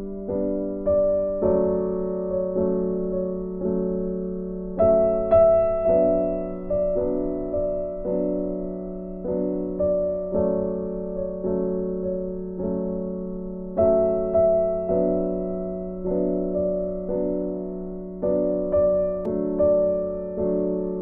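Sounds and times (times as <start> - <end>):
slow gentle piano tune: 0.0 - 21.0.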